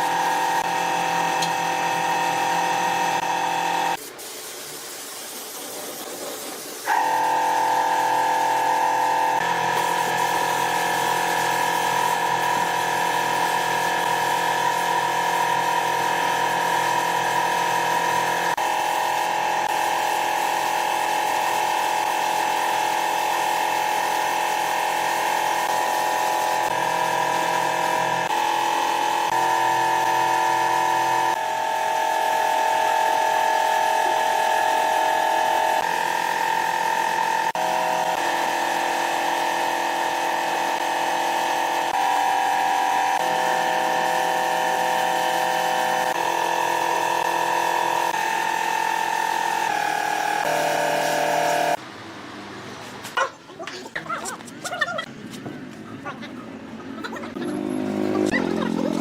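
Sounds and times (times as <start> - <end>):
power tool motor whining: 0.0 - 4.0, 6.9 - 51.8.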